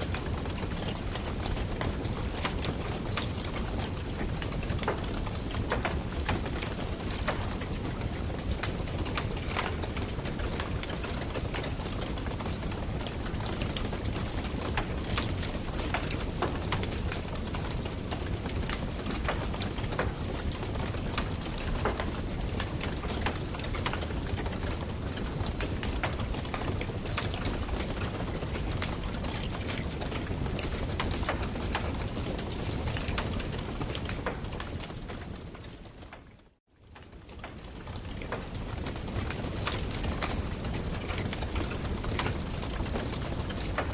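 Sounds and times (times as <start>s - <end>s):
campfire crackling and popping: 0.0s - 36.1s, 37.0s - 43.9s.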